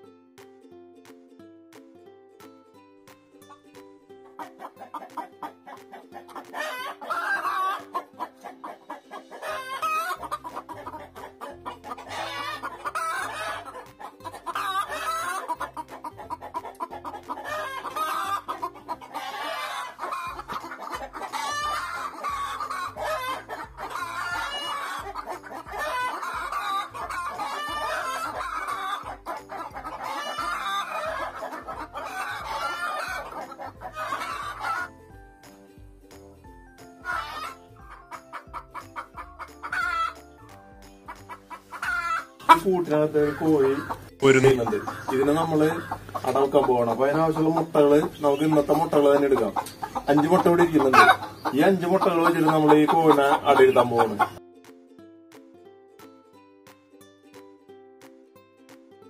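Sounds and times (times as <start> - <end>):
chickens clucking: 3.5 - 54.4
background music with bass: 9.1 - 56.4.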